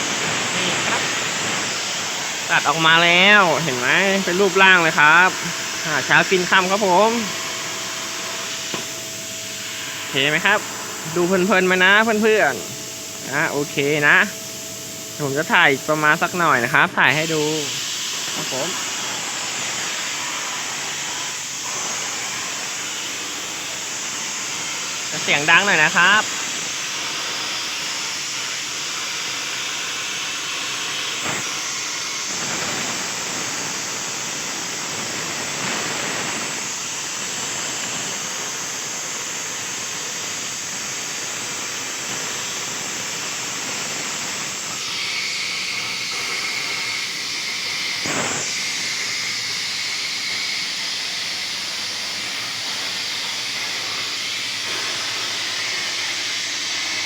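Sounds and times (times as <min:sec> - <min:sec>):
plasma cutter hissing: 0:00.0 - 0:57.0.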